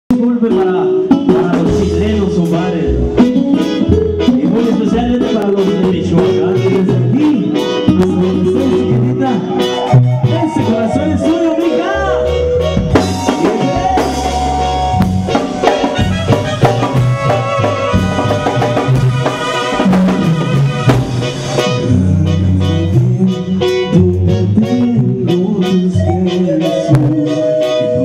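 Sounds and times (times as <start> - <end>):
bass: 0.1 - 28.0
drum kit: 0.1 - 28.0
keyboard melody: 0.1 - 28.0.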